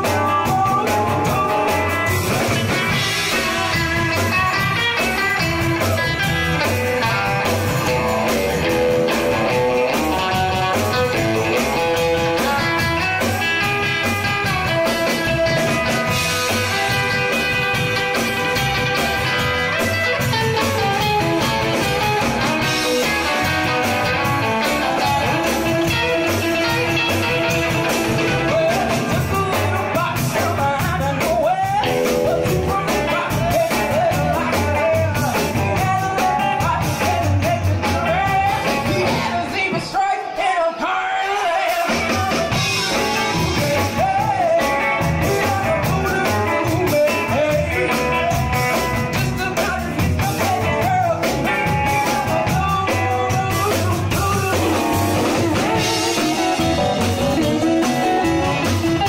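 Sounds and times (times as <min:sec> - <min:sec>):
rock and roll song with singing: 0:00.0 - 0:59.0.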